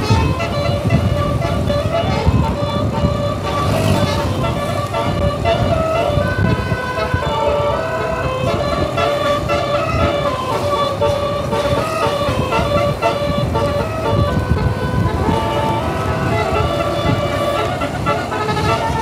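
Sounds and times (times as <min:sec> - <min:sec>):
musical air horns playing a tune: 0:00.0 - 0:19.0.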